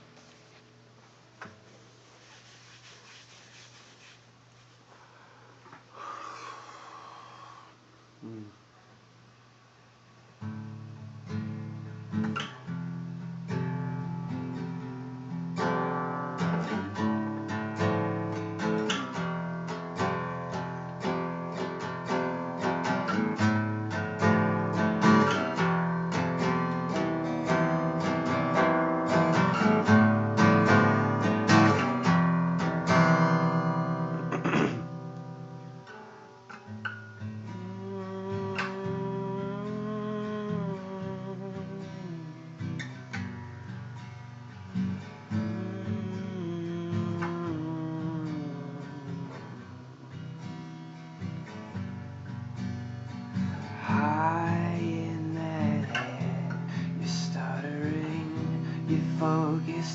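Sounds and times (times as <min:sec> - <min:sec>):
acoustic guitar strumming: 0:10.4 - 0:59.9.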